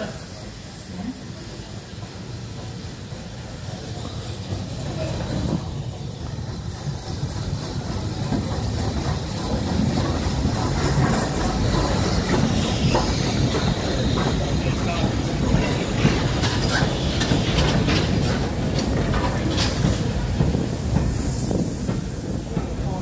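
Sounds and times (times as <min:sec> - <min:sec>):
hissing steam: 0:00.0 - 0:23.0
rumble of wheels on rail: 0:00.0 - 0:23.0.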